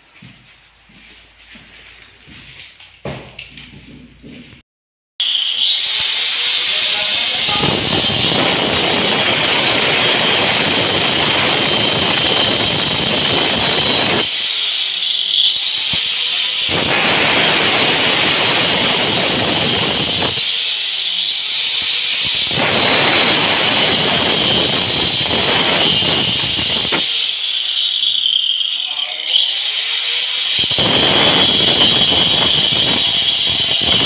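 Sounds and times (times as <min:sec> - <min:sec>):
angle grinder motor whine: 0:05.2 - 0:34.0
grinder cutting panel: 0:05.2 - 0:34.0.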